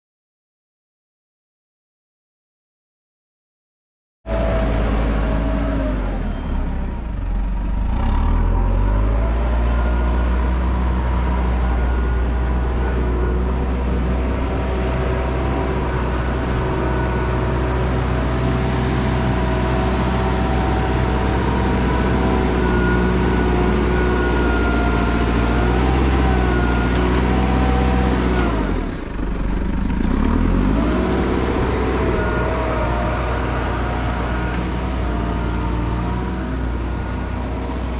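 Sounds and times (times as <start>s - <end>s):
vehicle engine running: 4.3s - 37.9s.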